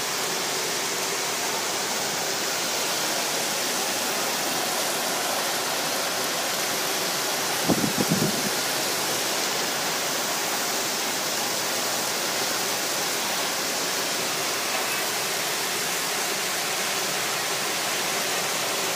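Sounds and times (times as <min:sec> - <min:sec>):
heavy rain: 0:00.0 - 0:18.9.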